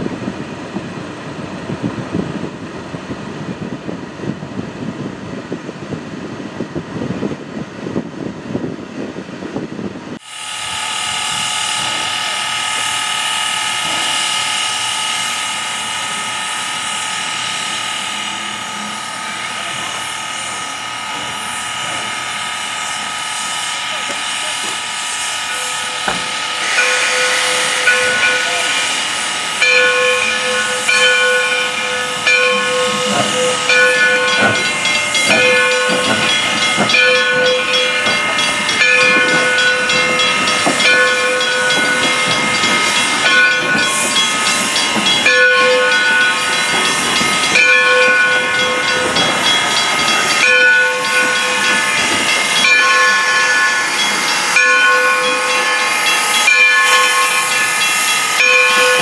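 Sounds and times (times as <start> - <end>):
steam locomotive hissing: 10.2 - 59.0.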